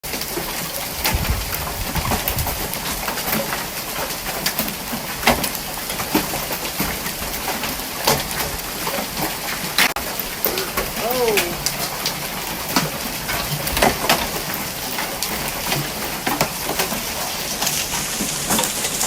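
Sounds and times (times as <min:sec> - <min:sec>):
large hailstones cracking: 0:00.1 - 0:19.0.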